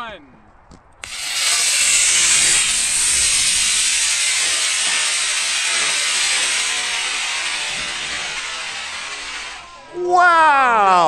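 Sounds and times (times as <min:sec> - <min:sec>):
model rocket motor hissing: 0:01.0 - 0:10.0.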